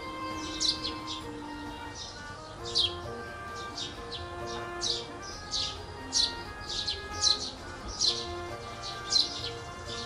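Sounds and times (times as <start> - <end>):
quiet background music: 0.0 - 10.0
songbirds chirping: 0.0 - 10.0.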